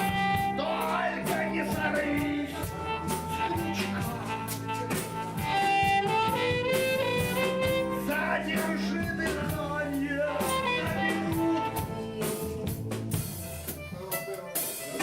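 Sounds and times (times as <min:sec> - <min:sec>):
sustained lead melody: 0:00.0 - 0:14.0
bass: 0:00.0 - 0:15.0
drums steady beat: 0:00.0 - 0:15.0.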